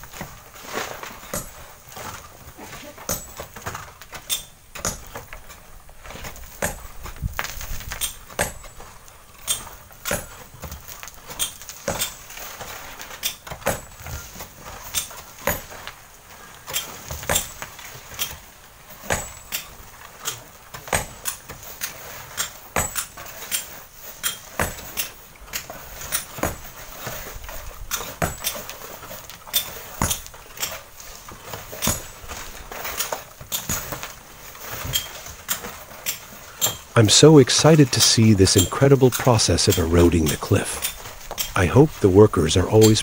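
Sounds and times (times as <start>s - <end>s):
outdoor hiss: 0.0s - 43.0s.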